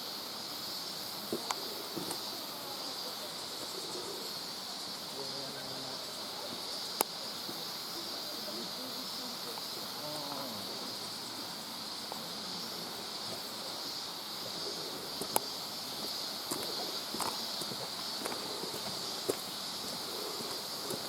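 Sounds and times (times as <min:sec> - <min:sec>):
high-pitched outdoor hiss: 0:00.0 - 0:21.0.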